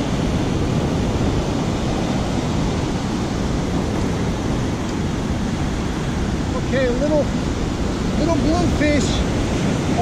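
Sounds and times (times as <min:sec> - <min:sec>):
ocean surf breaking: 0:00.0 - 0:10.0
wind on microphone: 0:00.0 - 0:10.0.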